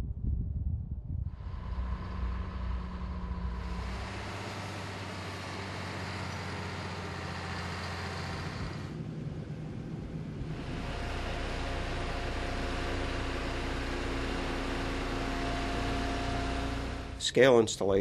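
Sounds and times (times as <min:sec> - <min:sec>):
heavy construction vehicle engines: 0:01.3 - 0:18.0.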